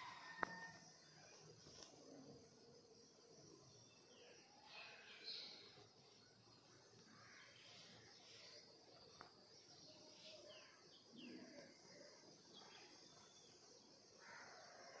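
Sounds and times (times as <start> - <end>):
steady high hiss: 0.0 - 14.2.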